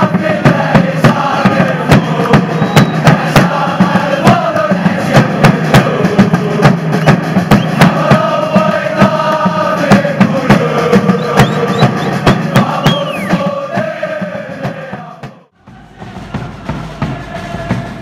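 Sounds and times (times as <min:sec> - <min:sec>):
bass drum beat: 0:00.0 - 0:18.0
crowd chanting: 0:00.0 - 0:18.0.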